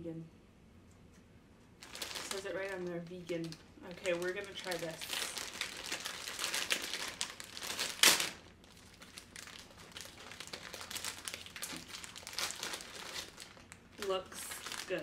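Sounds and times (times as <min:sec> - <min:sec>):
plastic bag crinkling: 0:01.8 - 0:15.0
plastic bag ripping: 0:01.8 - 0:15.0.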